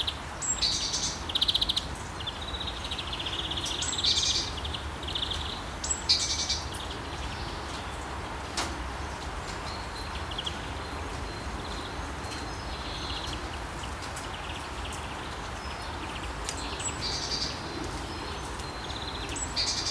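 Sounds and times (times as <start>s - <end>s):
light rain falling: 0.0s - 19.9s
light wind: 0.0s - 19.9s
small birds chirping: 0.0s - 19.9s.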